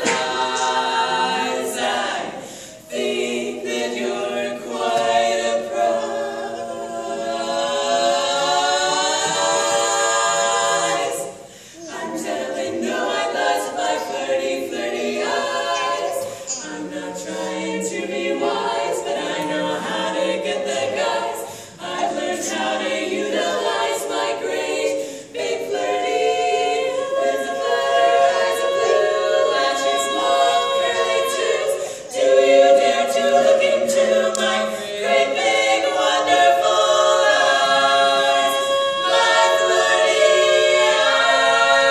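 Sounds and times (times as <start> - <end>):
women singing a cappella harmony: 0.0 - 41.9.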